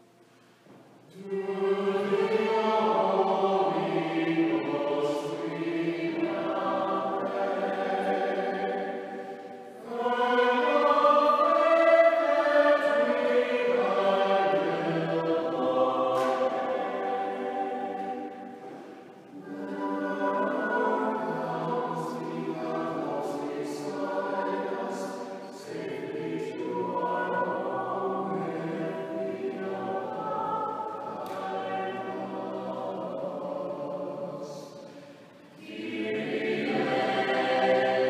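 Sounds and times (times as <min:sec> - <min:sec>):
mixed choir singing a hymn: 0:01.1 - 0:38.0.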